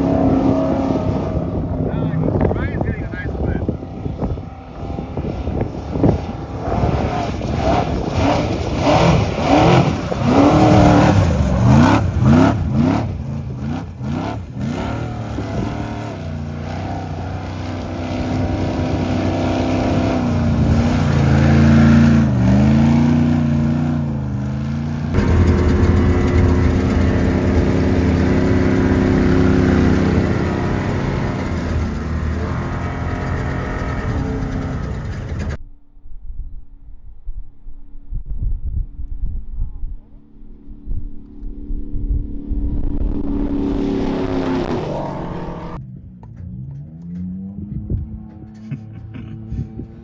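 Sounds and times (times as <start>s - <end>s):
truck engine revving: 0.0s - 35.6s, 42.4s - 50.0s
truck engine running steadily: 1.2s - 35.6s, 42.7s - 50.0s.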